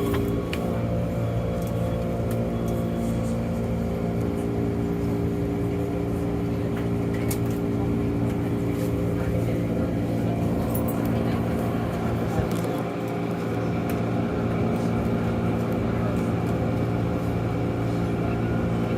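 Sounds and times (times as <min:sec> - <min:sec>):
electric train hum: 0:00.0 - 0:18.9
train running noise: 0:00.0 - 0:18.9.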